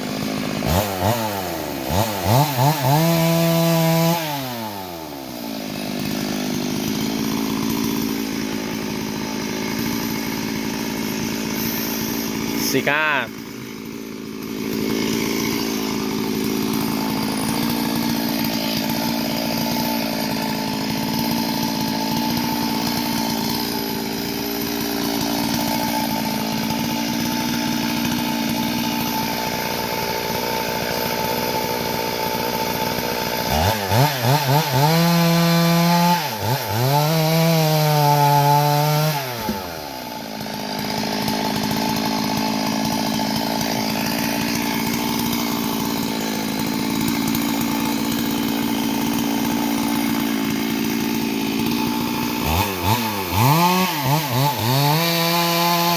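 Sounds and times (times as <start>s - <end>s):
chainsaw engine revving: 0.0s - 55.9s.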